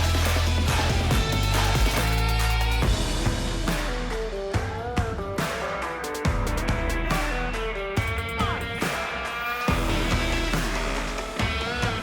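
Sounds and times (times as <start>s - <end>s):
instrumental music with guitar: 0.0s - 12.0s.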